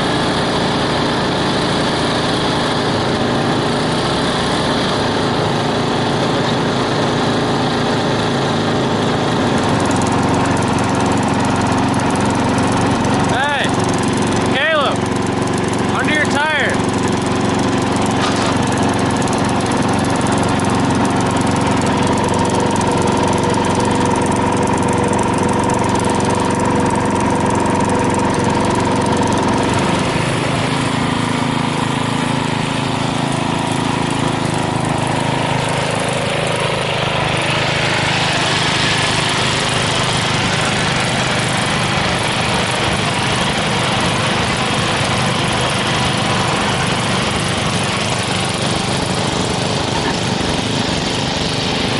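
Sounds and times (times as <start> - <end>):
lawn mower engine running: 0.0 - 51.9.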